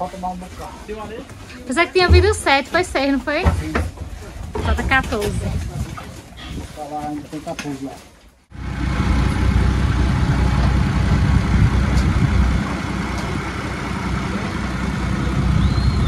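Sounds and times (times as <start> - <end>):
vehicle engine rumbling: 0.0 - 7.4, 8.3 - 16.0.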